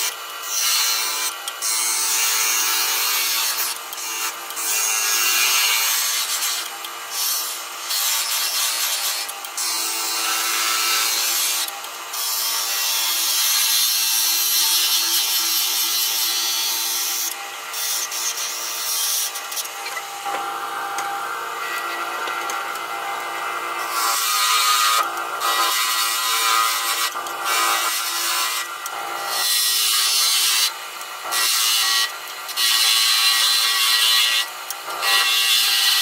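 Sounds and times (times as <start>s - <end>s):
wood lathe motor hum: 0.0s - 32.1s.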